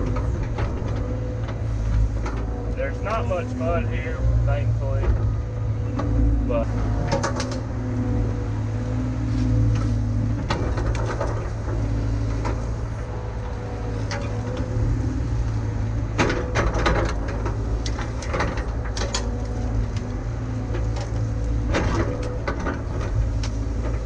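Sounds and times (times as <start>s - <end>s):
excavator diesel engine running: 0.0s - 24.0s
excavator digging knocks and clanks: 0.0s - 24.0s.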